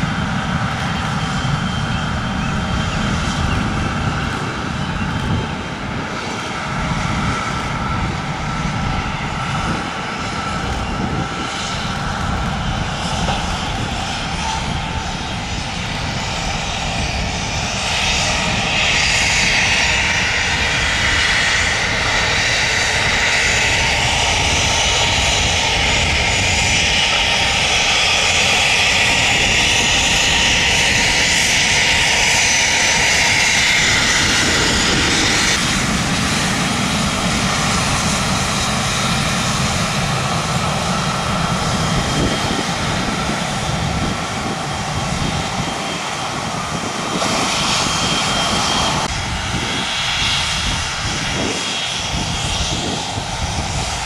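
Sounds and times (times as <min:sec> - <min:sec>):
jet engines taxiing: 0:00.0 - 0:54.0.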